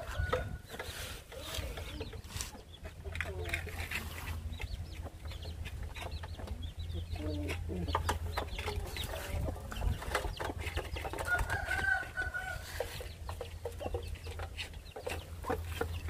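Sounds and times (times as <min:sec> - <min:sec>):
drawn-out hen call: 0:00.0 - 0:16.0
hen and chicks clucking and cheeping: 0:00.0 - 0:16.0
pecks on metal basin: 0:00.0 - 0:16.0.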